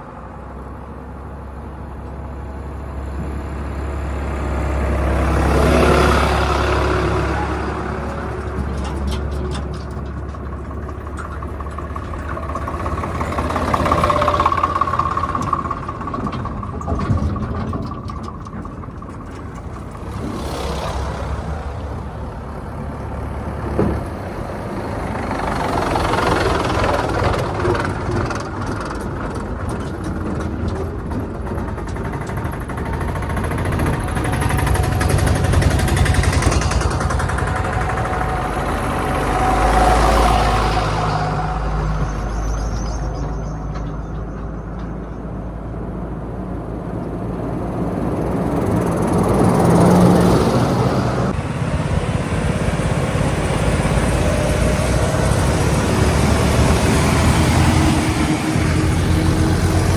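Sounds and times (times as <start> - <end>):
heavy diesel engines: 0.0 - 59.9.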